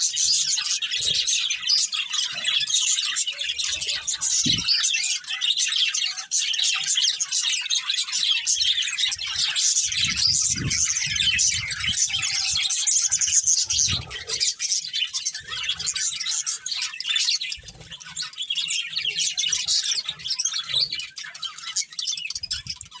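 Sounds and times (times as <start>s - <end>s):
budgerigars chirping: 0.0s - 23.0s.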